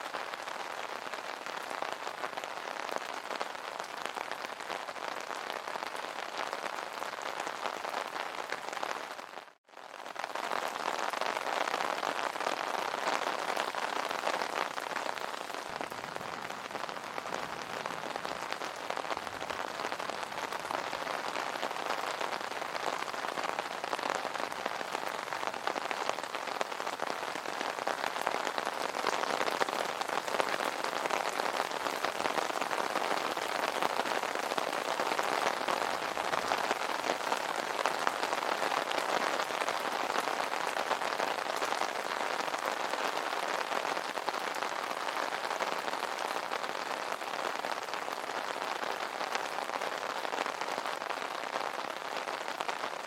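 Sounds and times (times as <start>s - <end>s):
rain on an umbrella: 0.0s - 53.0s.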